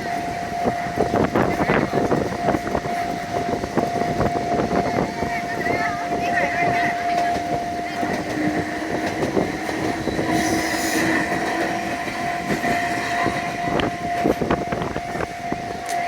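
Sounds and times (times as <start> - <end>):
crossing warning bell ringing: 0.0 - 16.0
electric train passing: 0.0 - 16.0
wheels clicking over rail joints: 0.0 - 16.0.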